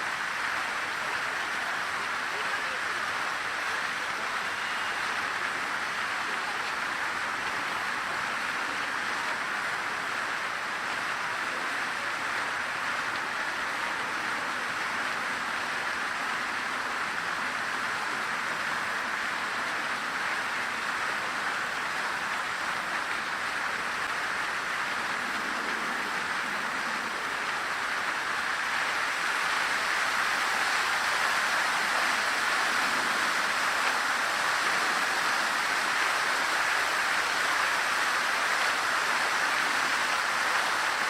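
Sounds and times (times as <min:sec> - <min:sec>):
fountain water splashing: 0:00.0 - 0:41.0.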